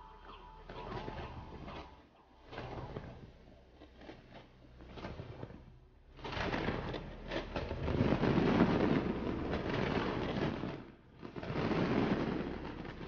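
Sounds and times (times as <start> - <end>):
fireworks bursting and crackling: 0.0 - 4.2, 6.2 - 13.0.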